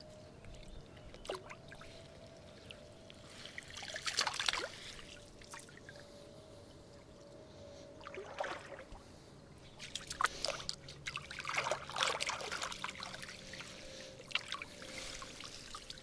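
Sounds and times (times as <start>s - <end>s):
water splashing and trickling: 0.1s - 7.2s, 8.0s - 16.0s.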